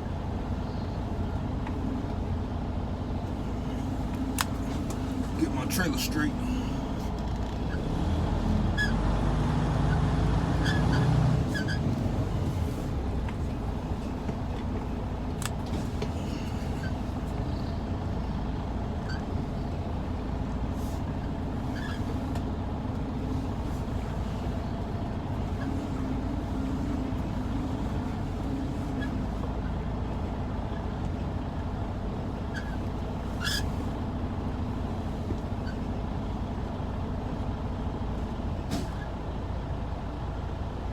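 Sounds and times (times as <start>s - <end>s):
diesel truck engine rumbling: 0.0s - 40.9s.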